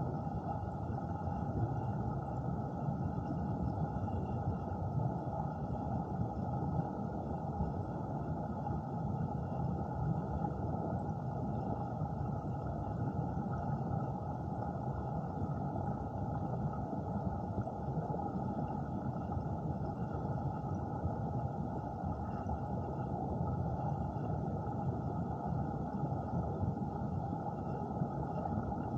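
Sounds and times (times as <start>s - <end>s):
muffled underwater water rushing: 0.0s - 28.9s.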